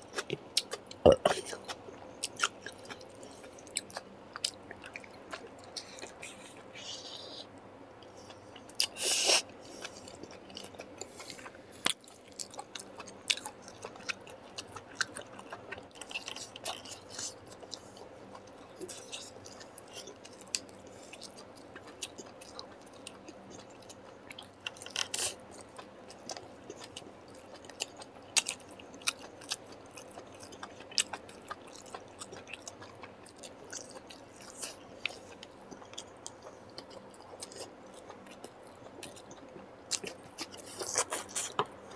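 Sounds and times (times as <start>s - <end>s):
person chewing and eating: 0.0s - 41.9s.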